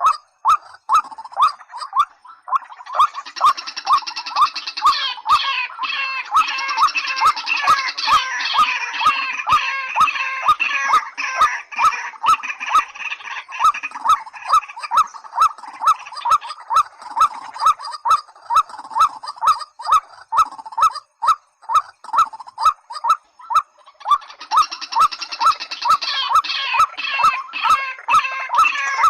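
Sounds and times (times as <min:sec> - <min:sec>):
harsh chorus of bird calls: 0:00.0 - 0:29.0.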